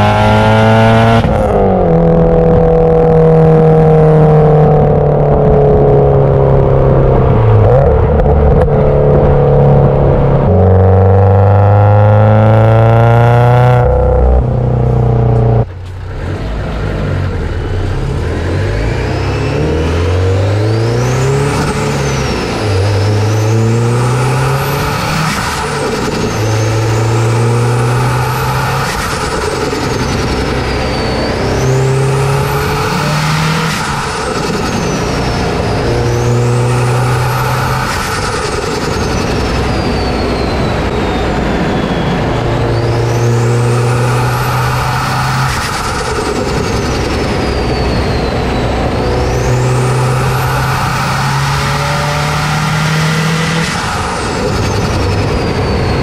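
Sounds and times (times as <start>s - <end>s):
car engine revving: 0.0s - 56.0s
high turbo whine: 0.0s - 56.0s.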